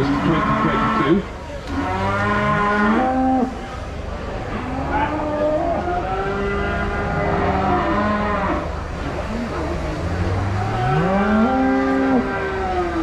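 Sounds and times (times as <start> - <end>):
cows mooing: 0.0 - 3.6, 4.6 - 8.7, 9.5 - 13.0.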